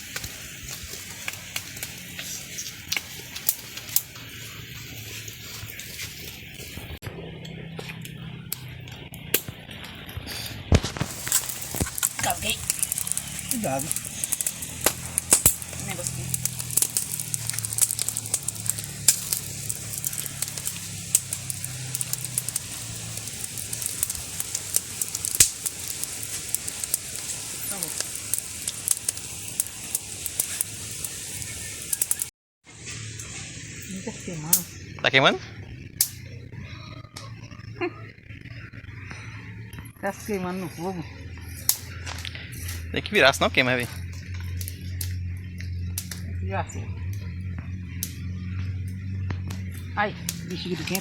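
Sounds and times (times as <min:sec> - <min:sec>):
campfire crackling and popping: 0:00.0 - 0:51.0.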